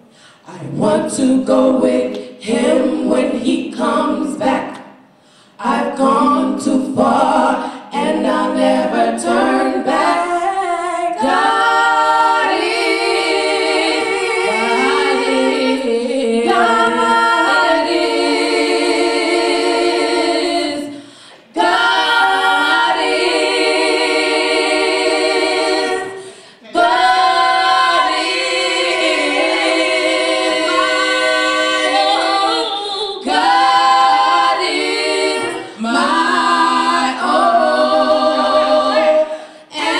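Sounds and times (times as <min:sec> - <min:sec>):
women singing a cappella harmony: 0:00.0 - 0:39.9.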